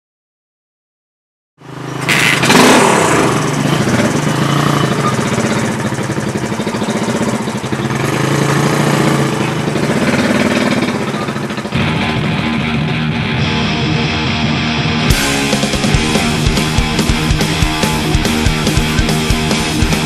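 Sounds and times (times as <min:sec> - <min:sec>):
motorcycle engine revving and idling: 0:01.6 - 0:20.0.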